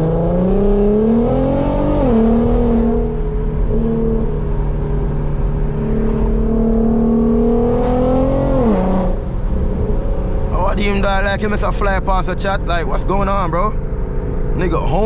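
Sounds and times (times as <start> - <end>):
car engine and exhaust: 0.0 - 15.0.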